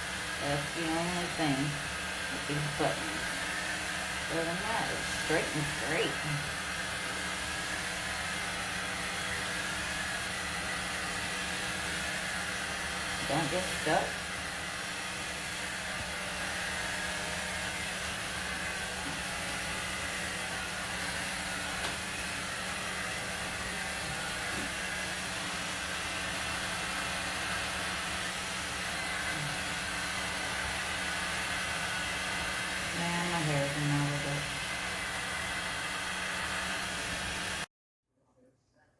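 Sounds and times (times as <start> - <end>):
hot-air dryer brush fan blowing: 0.0 - 37.7.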